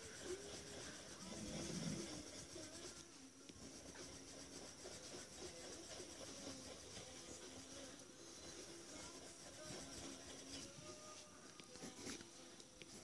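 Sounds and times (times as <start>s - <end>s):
faint radio playing: 0.0s - 13.0s
pencil scratching on paper: 0.0s - 13.0s.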